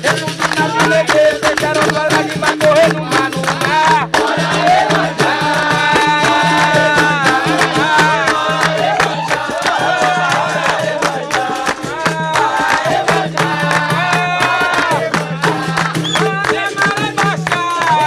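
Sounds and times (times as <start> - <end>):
call-and-response singing: 0.0 - 18.0
crowd clapping in time: 0.0 - 18.0.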